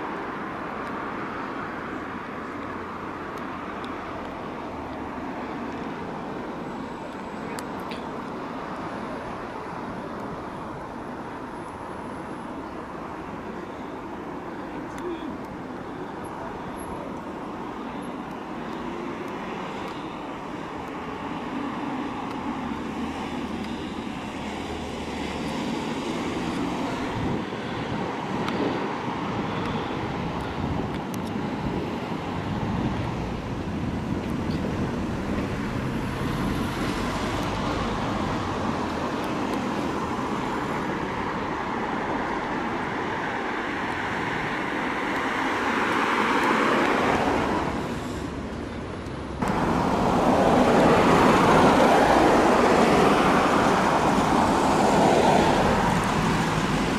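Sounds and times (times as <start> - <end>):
vehicles driving past: 0.0 - 56.9.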